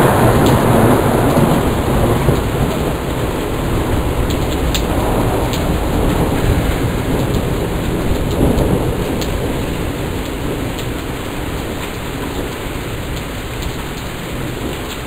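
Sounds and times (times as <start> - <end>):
heavy rain: 0.0 - 15.0
rolling thunder: 0.0 - 15.0.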